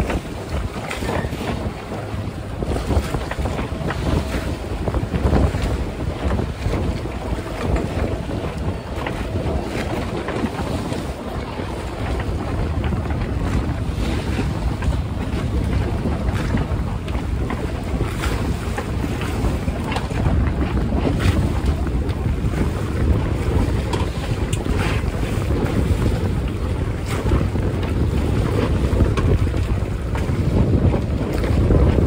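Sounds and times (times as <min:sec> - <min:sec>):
water rushing along boat hull: 0:00.0 - 0:32.0
wind buffeting microphone: 0:00.0 - 0:32.0.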